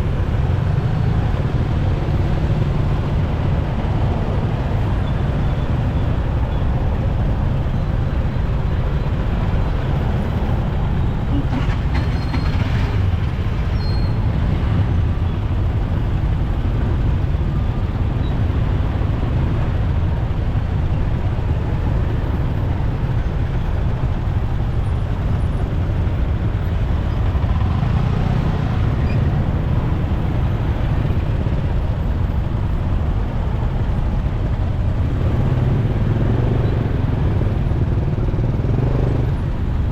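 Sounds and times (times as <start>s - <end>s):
traffic: 0.0s - 39.9s.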